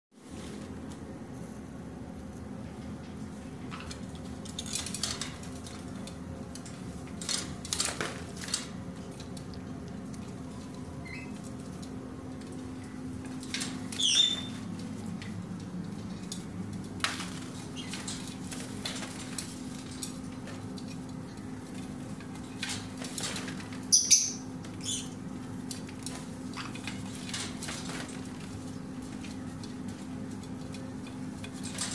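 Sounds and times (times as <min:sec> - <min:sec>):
parrot clinking cage and dishes: 0:02.7 - 0:31.9.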